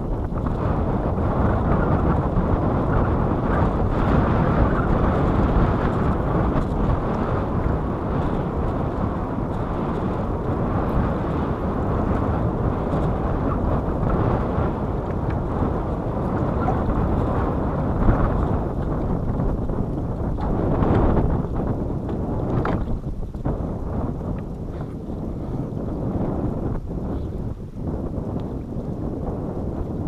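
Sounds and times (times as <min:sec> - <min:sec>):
wind blowing across microphone: 0:00.0 - 0:30.0.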